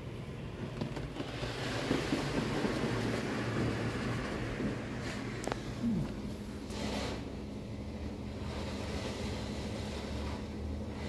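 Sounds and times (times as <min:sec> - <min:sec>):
car wash hum: 0:00.0 - 0:11.0
water hissing against car: 0:01.0 - 0:11.0.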